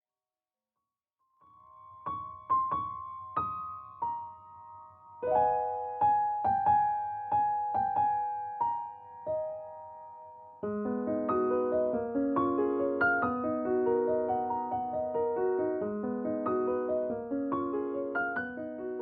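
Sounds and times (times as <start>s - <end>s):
gentle piano melody: 1.4s - 19.0s.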